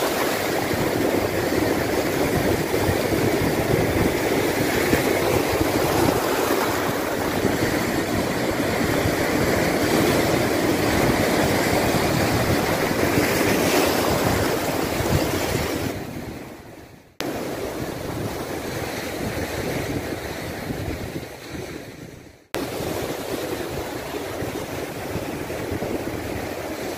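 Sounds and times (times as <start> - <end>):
ocean surf breaking: 0.0 - 26.9
wind buffeting microphone: 0.0 - 26.9.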